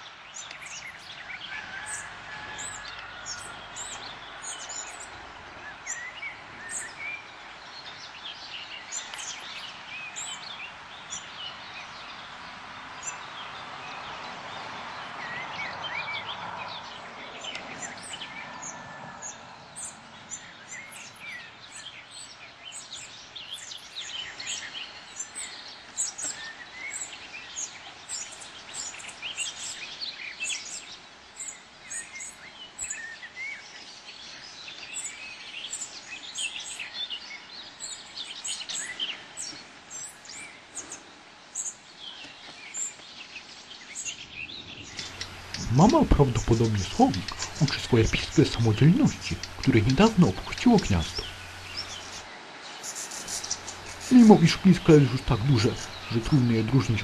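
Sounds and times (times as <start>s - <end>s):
outdoor background noise: 0.0s - 57.0s
songbirds chirping: 0.0s - 57.0s.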